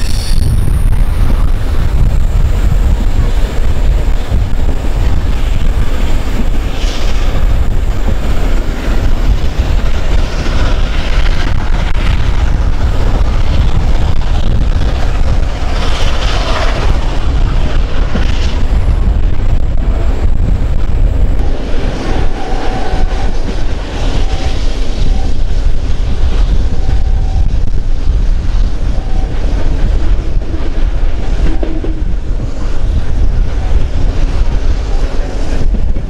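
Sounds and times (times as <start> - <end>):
train carriages rumbling: 0.0 - 36.0
wind on microphone: 0.0 - 36.0.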